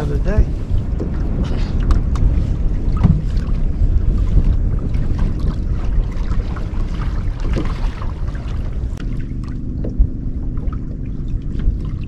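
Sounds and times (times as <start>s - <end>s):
boat motor humming: 0.0s - 12.0s
wind noise on microphone: 0.0s - 12.0s.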